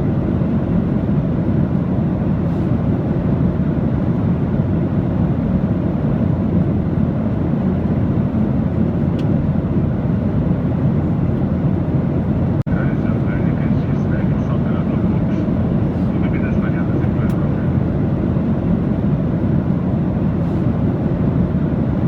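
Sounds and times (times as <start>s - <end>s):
aircraft engine rumble: 0.0s - 22.0s.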